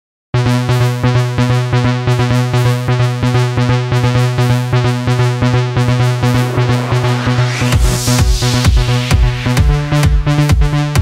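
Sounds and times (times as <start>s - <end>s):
electronic background music: 0.4s - 11.0s.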